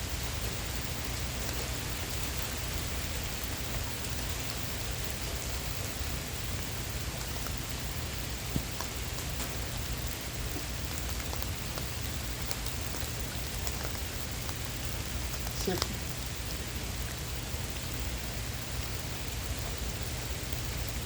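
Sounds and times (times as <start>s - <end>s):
raindrops ticking close by: 0.0s - 21.0s
steady rain falling: 0.0s - 21.0s.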